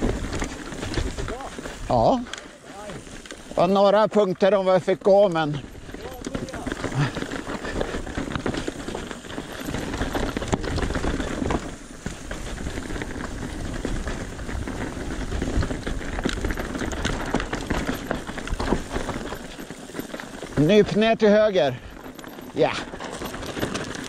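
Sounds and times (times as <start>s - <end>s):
bike rattling over rocks: 0.0s - 24.0s
tyres crunching over gravel: 0.0s - 24.0s.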